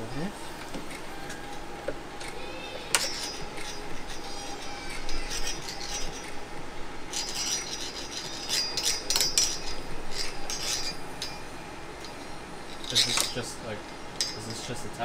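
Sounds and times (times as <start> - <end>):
metal squeaking and scraping: 1.0 - 14.8.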